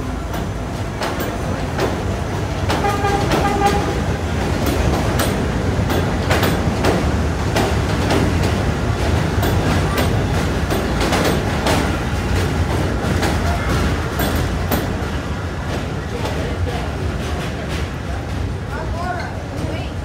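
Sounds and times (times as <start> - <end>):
wheels clacking over rail joints: 0.0 - 19.9
subway train rumble: 0.0 - 20.0.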